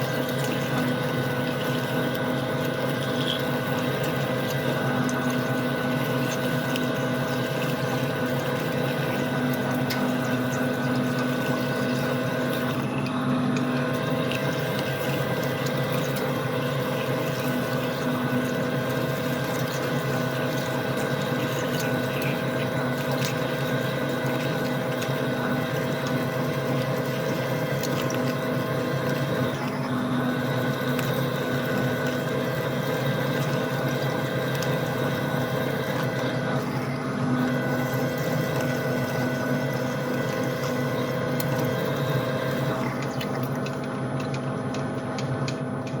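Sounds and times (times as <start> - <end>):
metal lathe humming: 0.0 - 46.0.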